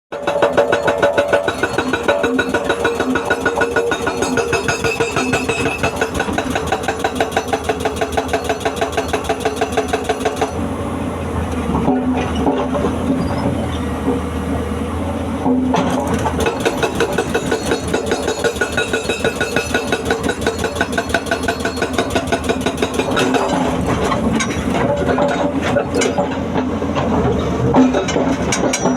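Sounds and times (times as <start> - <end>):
excavator diesel engine running: 0.2 - 28.9.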